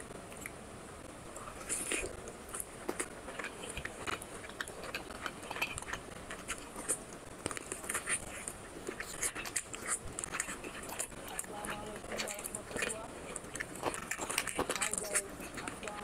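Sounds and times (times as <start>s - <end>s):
person biting and chewing: 1.3s - 15.8s.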